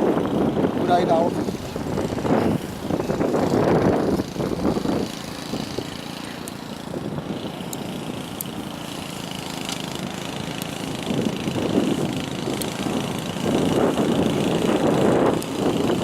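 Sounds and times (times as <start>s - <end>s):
loud irregular noise: 0.0s - 16.0s
small engine idling: 0.0s - 16.0s.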